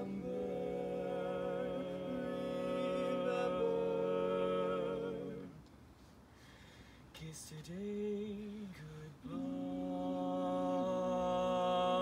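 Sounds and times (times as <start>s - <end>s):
male quartet singing a cappella: 0.0s - 5.6s, 7.2s - 12.0s.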